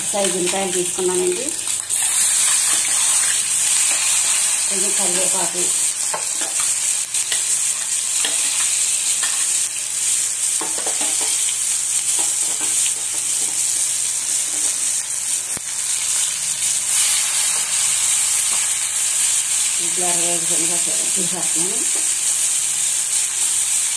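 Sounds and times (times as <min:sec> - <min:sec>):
food sizzling in hot oil: 0:00.0 - 0:23.9.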